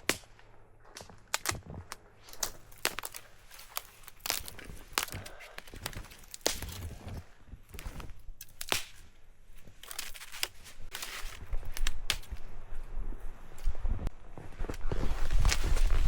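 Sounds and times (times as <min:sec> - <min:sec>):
dry branches snapping: 0:00.0 - 0:13.8, 0:14.6 - 0:16.0
crunching and rustling: 0:00.0 - 0:16.0.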